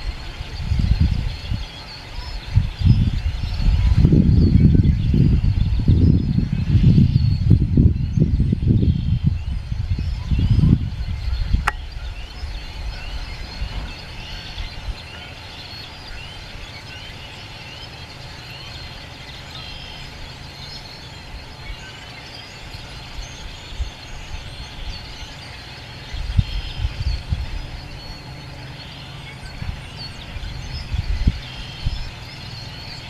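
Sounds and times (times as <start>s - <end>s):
spring peepers chorus: 0.0s - 33.0s.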